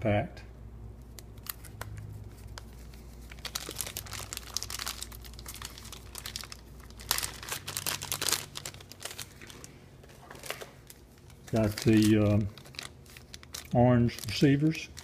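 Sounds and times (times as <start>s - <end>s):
plastic bags crinkling: 1.3s - 15.0s.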